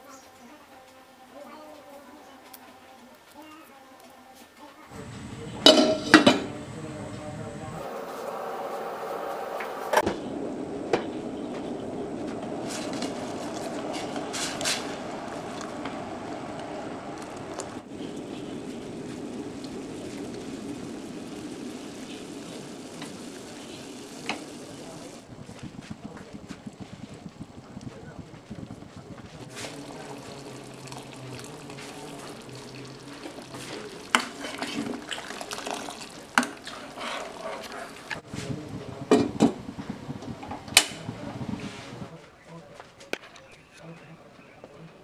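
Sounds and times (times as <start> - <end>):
syrup bubbling at the boil: 4.9 - 42.1.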